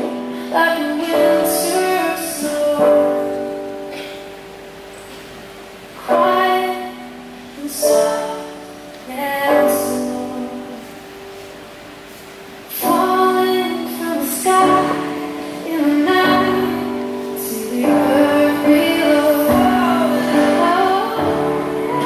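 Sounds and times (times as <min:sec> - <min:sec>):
woman singing: 0:00.0 - 0:03.9, 0:06.0 - 0:11.1, 0:12.7 - 0:22.0.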